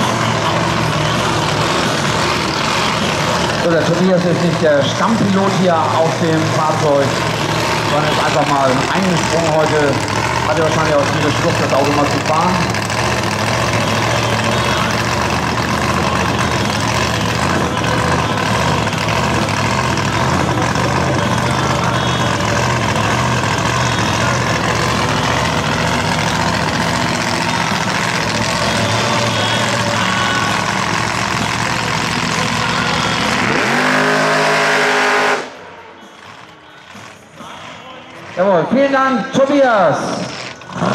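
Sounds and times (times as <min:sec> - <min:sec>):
car engine running at low revs: 0:00.0 - 0:37.4.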